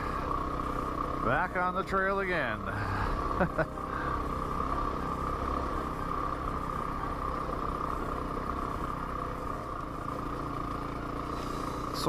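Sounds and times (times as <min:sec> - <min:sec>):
motorcycle engine running at low speed: 0:00.0 - 0:12.0.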